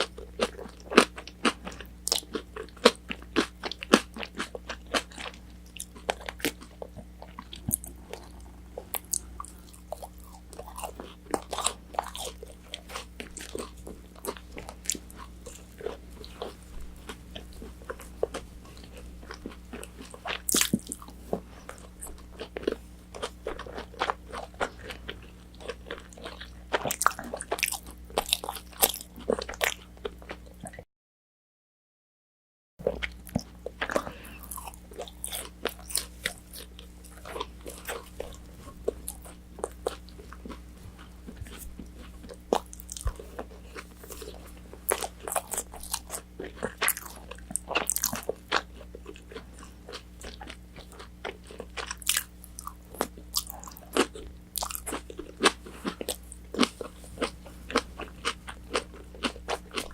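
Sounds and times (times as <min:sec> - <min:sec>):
crunchy chewing of fried chicken: 0:00.0 - 0:30.8, 0:32.8 - 0:59.9.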